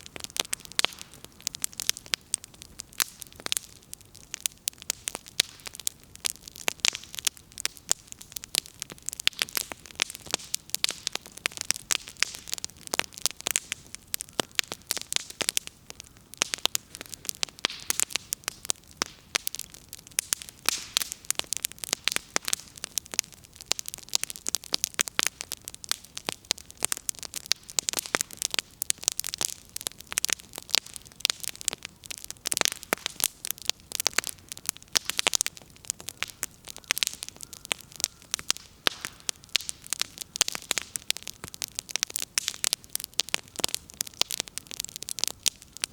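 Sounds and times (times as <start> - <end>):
bonfire crackling: 0.0 - 45.9.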